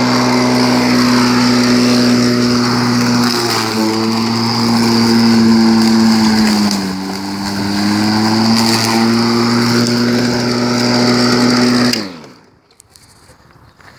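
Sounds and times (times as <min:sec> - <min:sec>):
electric lawn mower motor hum: 0:00.0 - 0:12.6.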